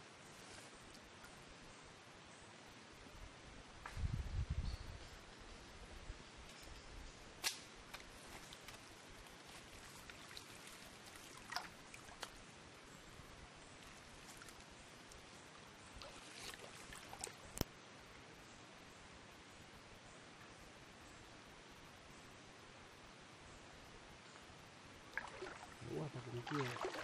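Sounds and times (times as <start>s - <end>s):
low steady hiss: 0.0s - 27.0s.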